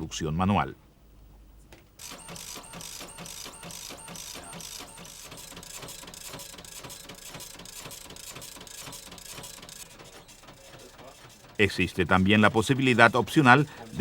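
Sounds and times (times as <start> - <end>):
dot-matrix printer printing: 2.0 - 14.0.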